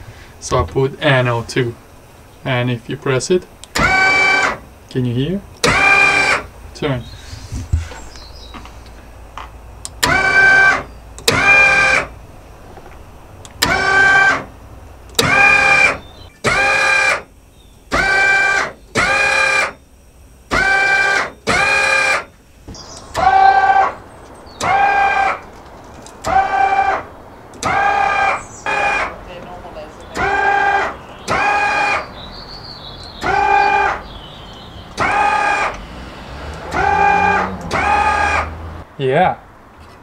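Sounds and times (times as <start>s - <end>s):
electric actuator whirring: 3.6s - 19.8s, 20.4s - 32.2s, 33.0s - 38.9s.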